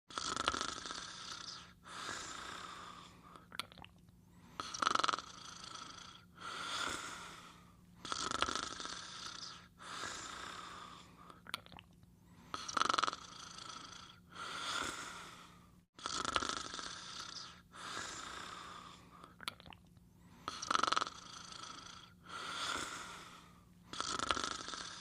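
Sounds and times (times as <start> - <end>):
person snoring: 0.1 - 3.5, 4.6 - 11.5, 12.5 - 19.4, 20.5 - 25.0.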